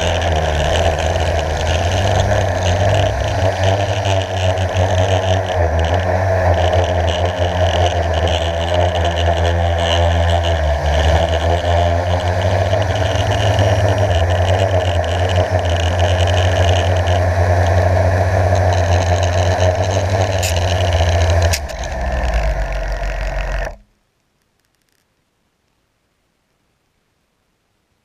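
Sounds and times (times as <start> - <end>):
drone propellers buzzing: 0.0 - 23.9.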